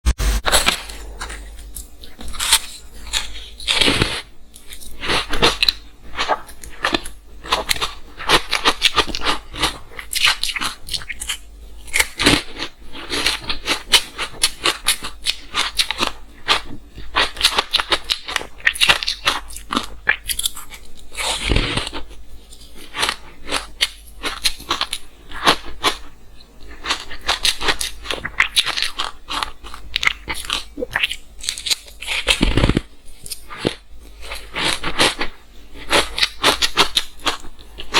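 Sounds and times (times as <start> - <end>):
crunching and chewing ice: 0.6 - 37.9.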